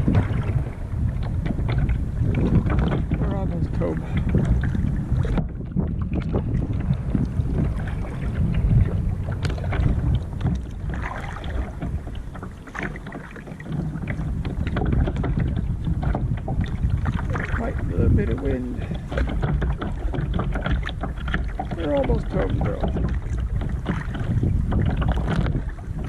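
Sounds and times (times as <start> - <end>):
paddle splashing water: 0.0 - 26.0
wind buffeting microphone: 0.0 - 26.0.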